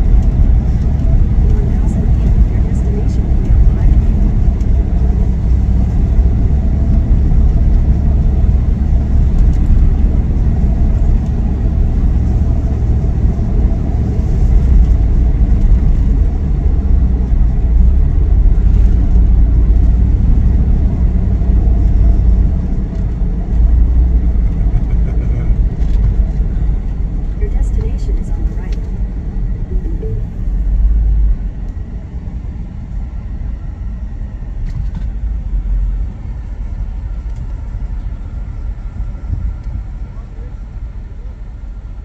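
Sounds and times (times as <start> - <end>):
vehicle engine and tyres rumbling: 0.0 - 42.0.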